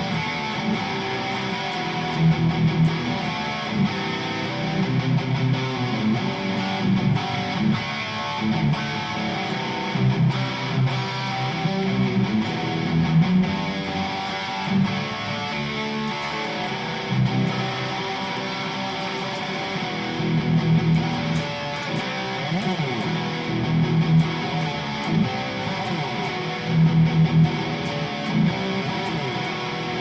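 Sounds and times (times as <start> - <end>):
electric guitar strumming chords: 0.0 - 30.0.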